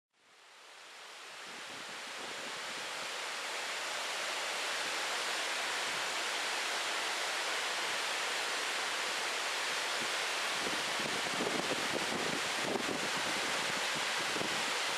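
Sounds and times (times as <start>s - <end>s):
waterfall rushing: 0.7s - 14.9s.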